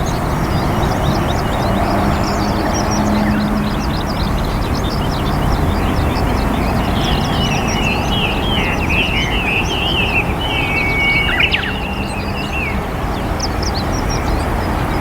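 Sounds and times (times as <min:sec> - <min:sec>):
small birds chirping: 0:00.0 - 0:15.0
warbling bird call: 0:00.8 - 0:12.9.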